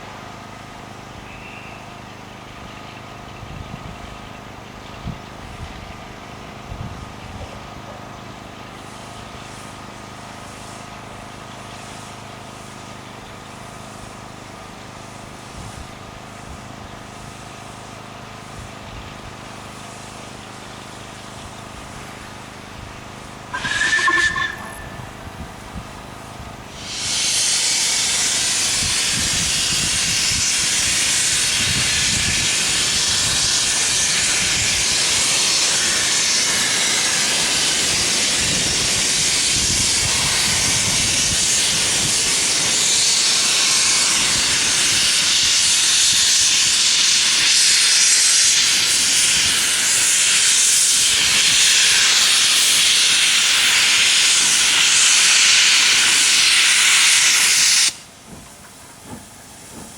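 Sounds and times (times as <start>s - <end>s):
steam hissing: 8.4s - 59.9s.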